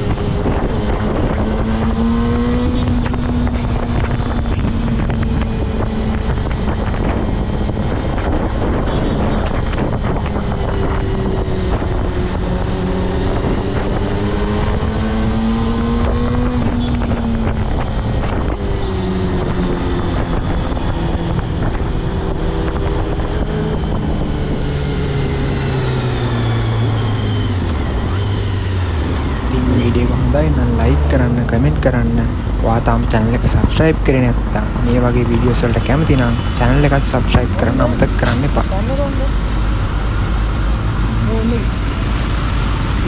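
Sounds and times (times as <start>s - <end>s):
motorcycle engine revving: 0.0s - 39.6s
wind rush: 0.0s - 43.0s.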